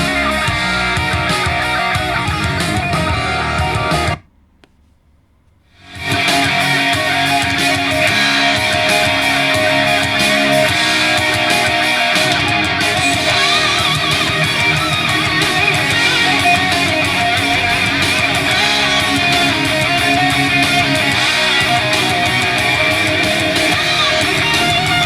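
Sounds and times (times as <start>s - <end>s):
rock music through speaker: 0.0s - 4.3s, 5.8s - 25.0s.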